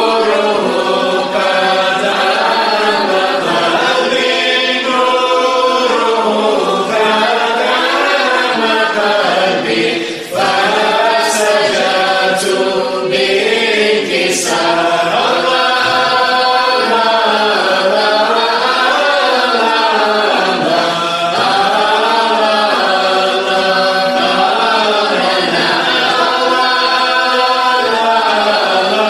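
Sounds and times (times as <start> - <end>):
group of voices chanting: 0.0 - 29.0.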